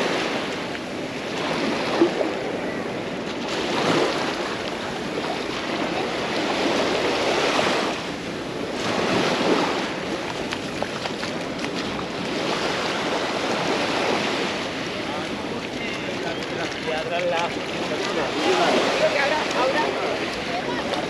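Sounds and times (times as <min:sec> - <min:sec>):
waves washing up shore: 0:00.0 - 0:21.0
wind on microphone: 0:00.0 - 0:21.0.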